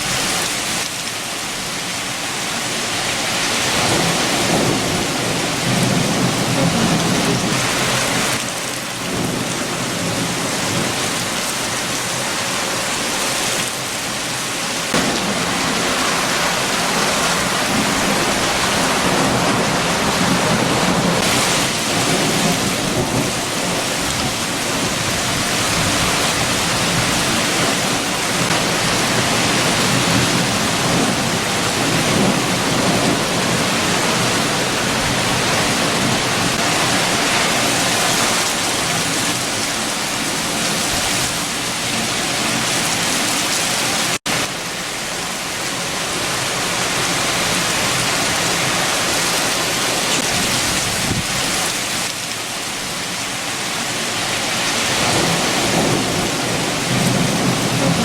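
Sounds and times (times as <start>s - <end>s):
heavy rain: 0.0s - 58.0s
strong wind: 0.0s - 58.0s.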